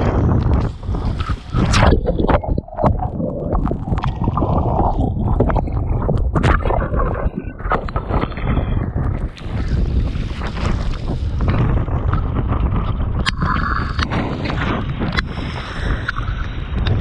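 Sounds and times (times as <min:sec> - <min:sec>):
water splashing and slapping: 0:00.0 - 0:17.0
wind buffeting microphone: 0:00.0 - 0:17.0.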